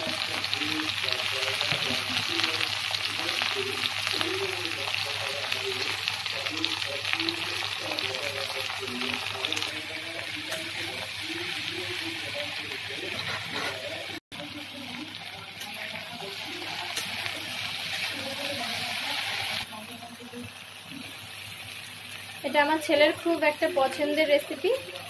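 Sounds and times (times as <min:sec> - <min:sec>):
okra sizzling in hot oil: 0:00.0 - 0:25.0.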